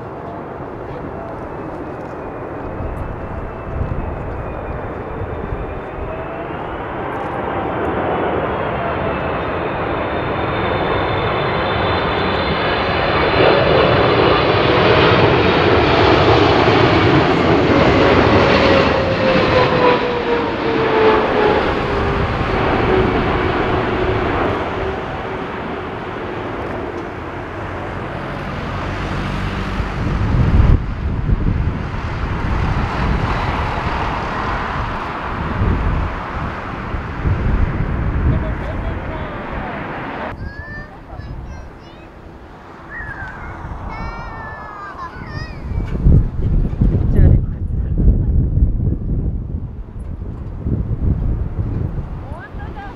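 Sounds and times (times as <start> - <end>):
jet airliner rumble and fan whine: 0.0 - 52.9
wind buffeting microphone: 0.0 - 52.9.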